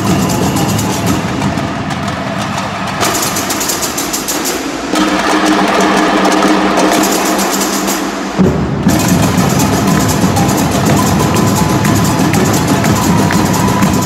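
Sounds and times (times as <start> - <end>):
percussion band drumming: 0.0 - 14.0.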